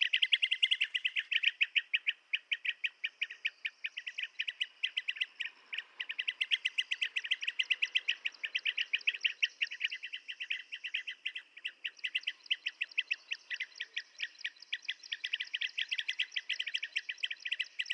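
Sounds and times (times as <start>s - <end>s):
bird chirping rapidly: 0.0s - 17.9s.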